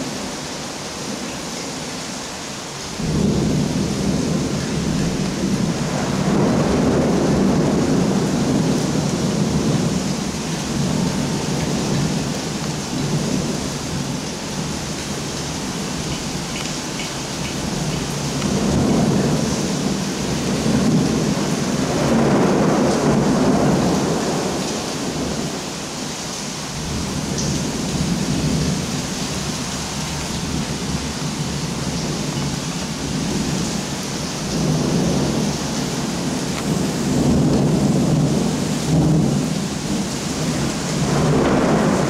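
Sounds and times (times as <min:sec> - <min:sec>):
heavy rain: 0:00.0 - 0:42.0
rolling thunder: 0:03.0 - 0:16.7, 0:17.3 - 0:25.9, 0:26.7 - 0:42.0.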